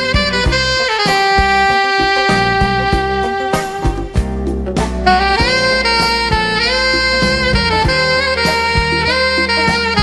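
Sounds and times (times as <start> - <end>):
backing band with drums and bass: 0.0 - 10.0
saxophone holding long note: 0.0 - 10.0.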